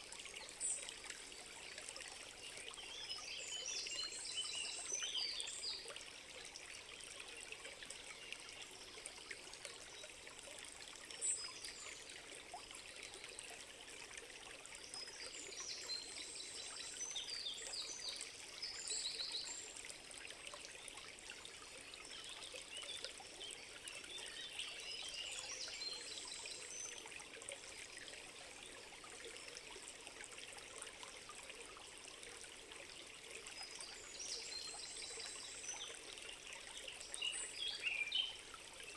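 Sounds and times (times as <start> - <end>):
stream trickling and splashing: 0.0 - 38.9.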